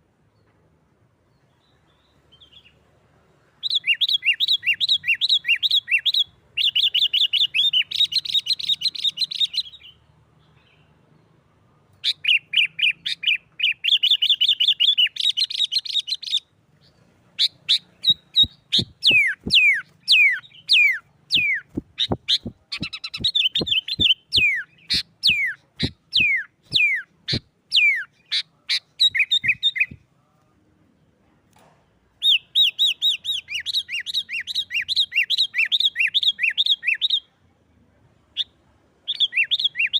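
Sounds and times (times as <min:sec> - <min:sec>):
bulbul singing: 0:03.6 - 0:11.3, 0:11.9 - 0:30.1, 0:32.2 - 0:37.3, 0:38.4 - 0:39.9.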